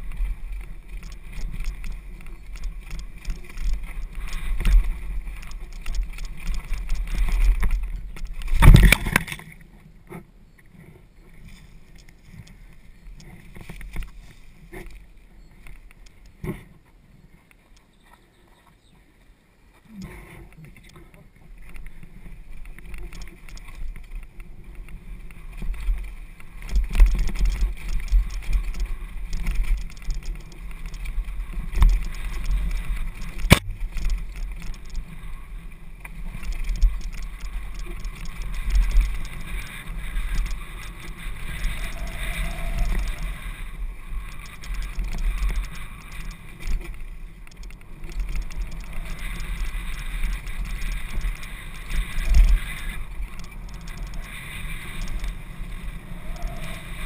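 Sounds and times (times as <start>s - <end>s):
bike knocking and rattling over bumps: 0.0s - 9.6s, 20.8s - 57.0s
mountain bike rumbling on dirt trail: 0.0s - 9.7s, 20.1s - 57.0s.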